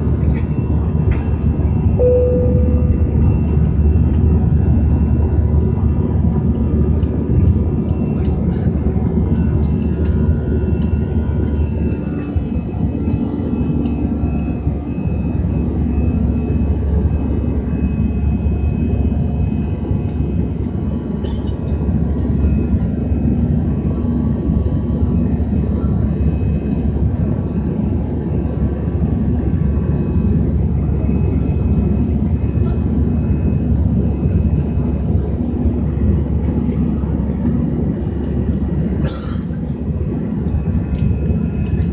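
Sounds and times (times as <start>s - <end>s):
jet engines at high power: 0.0s - 41.9s.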